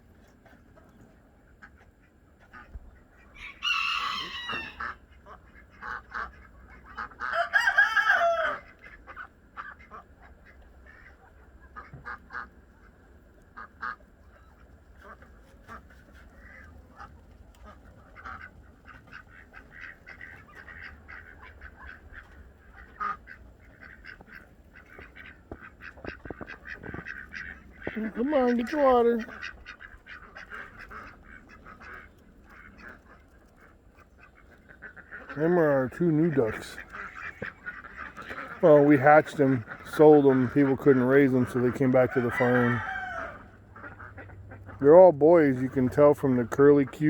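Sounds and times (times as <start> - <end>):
poultry clucking: 0.0 - 47.0
poultry calling: 0.2 - 47.0.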